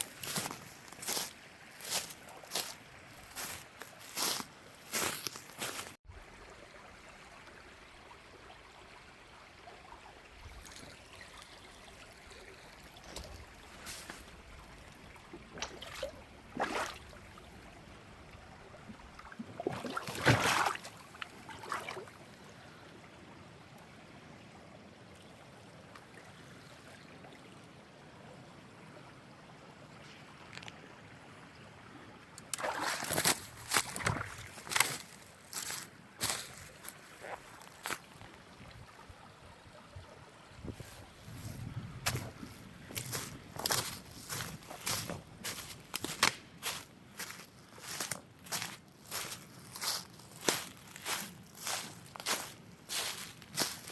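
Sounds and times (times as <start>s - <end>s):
trickle of spring water: 0.0s - 24.0s, 29.0s - 53.9s.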